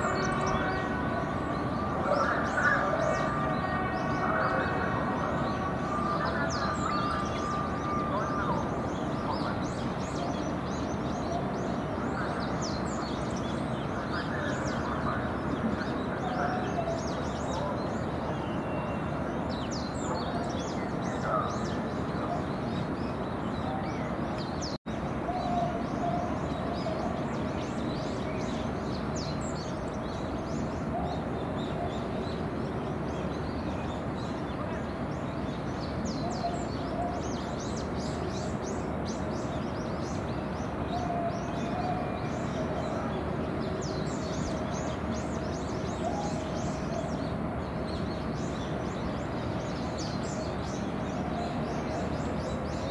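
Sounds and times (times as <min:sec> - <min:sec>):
harbour ambience hiss: 0:00.0 - 0:52.9
small birds chirping: 0:00.0 - 0:52.9.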